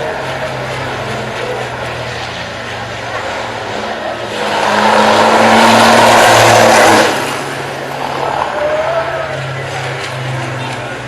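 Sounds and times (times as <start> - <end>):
motor vehicle passing: 0.0 - 11.0.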